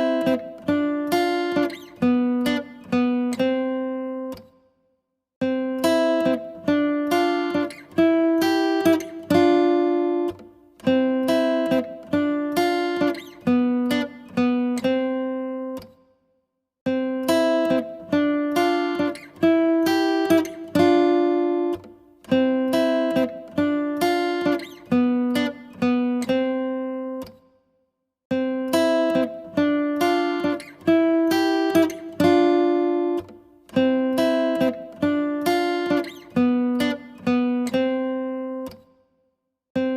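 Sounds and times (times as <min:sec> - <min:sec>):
acoustic guitar chords: 0:00.0 - 0:04.6, 0:05.4 - 0:16.1, 0:16.9 - 0:27.5, 0:28.3 - 0:39.0.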